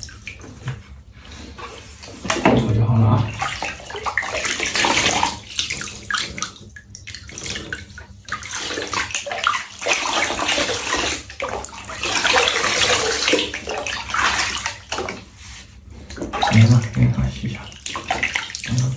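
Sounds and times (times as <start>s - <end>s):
water splashing in bathtub: 0.0s - 18.9s.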